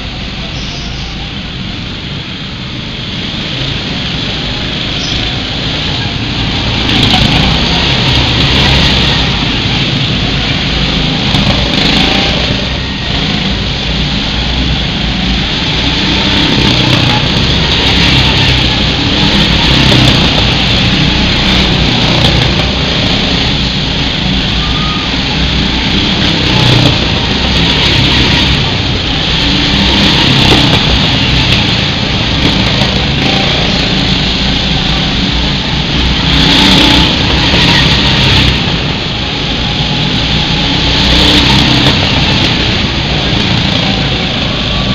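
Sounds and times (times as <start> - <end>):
go-kart engines passing by: 0.0 - 44.9.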